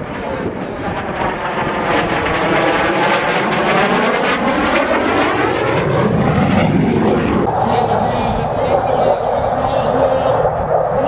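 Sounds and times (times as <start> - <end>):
jet flying past: 0.0 - 11.0.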